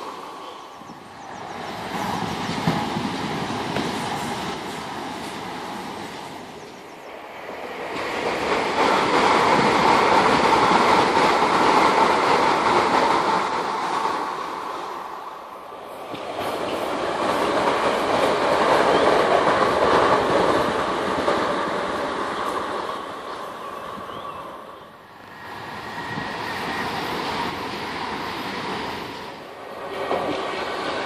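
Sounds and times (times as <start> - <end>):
passenger train running past: 0.0 - 31.0.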